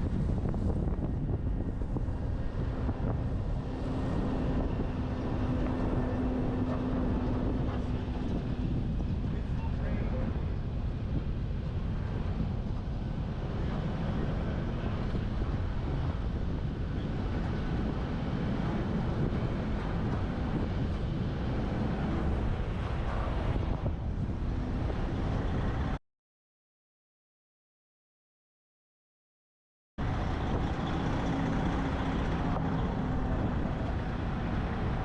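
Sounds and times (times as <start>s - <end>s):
truck road noise: 0.0s - 26.0s, 30.0s - 35.0s
wind buffeting camera: 0.0s - 26.0s, 30.0s - 35.0s.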